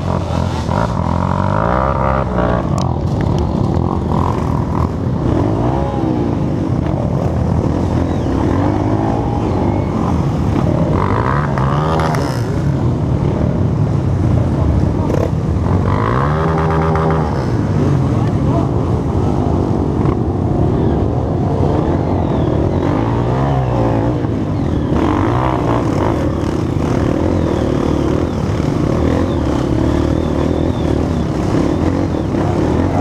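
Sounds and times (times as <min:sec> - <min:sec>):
dirt bike engines revving: 0:00.0 - 0:33.0.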